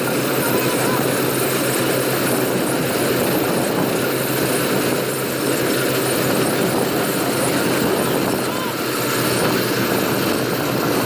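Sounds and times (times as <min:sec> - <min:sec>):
combine harvester diesel drone: 0:00.0 - 0:11.0.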